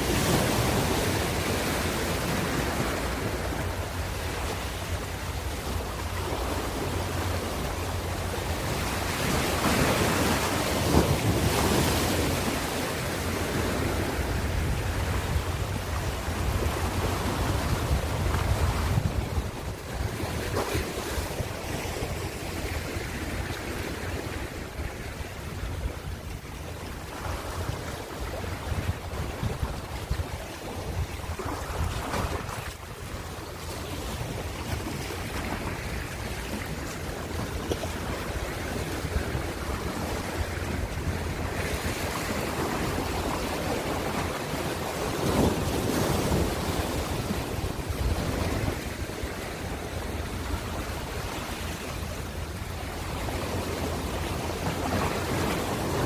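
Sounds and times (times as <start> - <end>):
ocean waves breaking: 0.0 - 56.0
wind rumble on microphone: 0.0 - 56.0.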